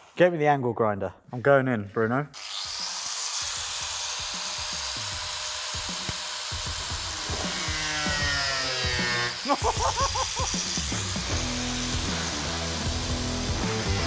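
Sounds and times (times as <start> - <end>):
angle grinder grinding metal: 2.4 - 14.0.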